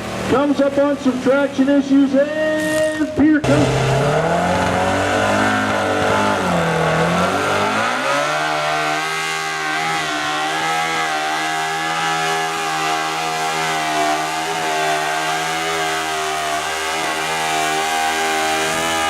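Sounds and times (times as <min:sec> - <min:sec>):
tractor engine running hard: 0:00.0 - 0:02.5, 0:03.2 - 0:19.0.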